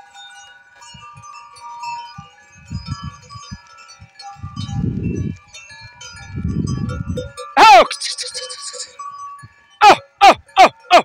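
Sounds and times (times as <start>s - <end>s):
goat bells jangling: 0.0s - 11.0s.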